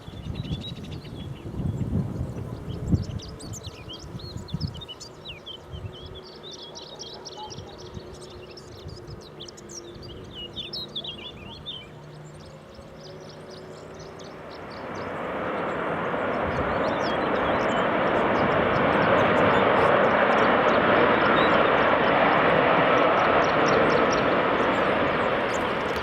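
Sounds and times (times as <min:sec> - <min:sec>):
aircraft engines roaring: 0:00.0 - 0:26.0
distant aircraft engines humming: 0:00.0 - 0:26.0
small birds chirping: 0:00.0 - 0:26.0.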